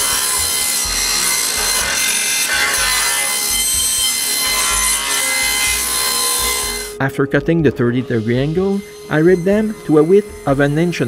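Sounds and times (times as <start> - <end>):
power saw cutting wood: 0.0 - 11.0.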